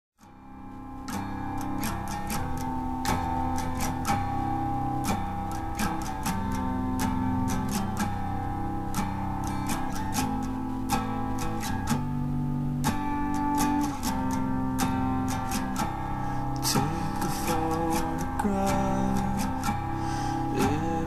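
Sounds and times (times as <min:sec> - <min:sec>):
acoustic guitar picking: 0:00.2 - 0:21.0.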